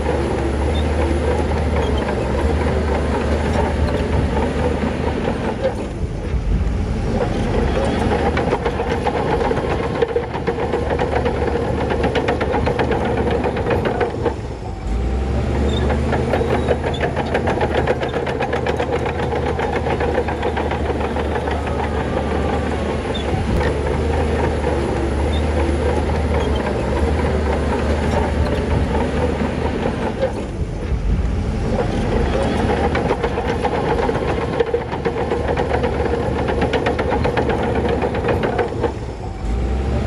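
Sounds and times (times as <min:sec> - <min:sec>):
bulldozer diesel engine running: 0:00.0 - 0:40.0
steel tracks clanking: 0:00.0 - 0:40.0.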